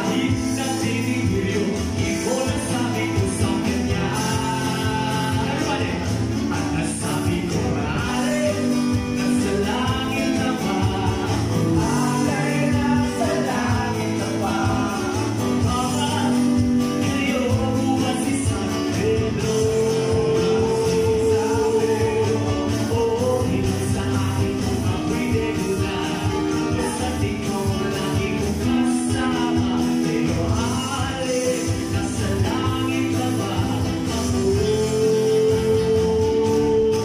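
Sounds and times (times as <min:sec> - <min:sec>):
acoustic guitar: 0:00.0 - 0:37.0
man singing: 0:00.0 - 0:37.0.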